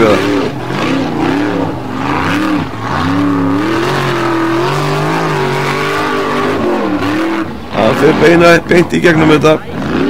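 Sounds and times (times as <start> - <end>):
buggy engine revving under load: 0.0 - 10.0.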